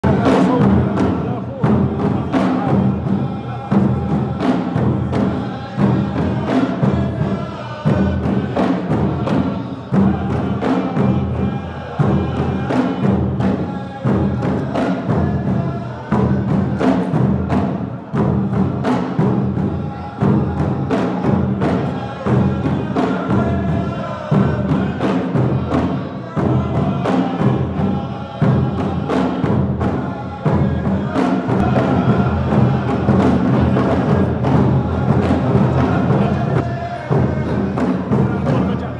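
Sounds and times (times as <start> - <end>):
music with heavy drum beat: 0.0 - 38.9.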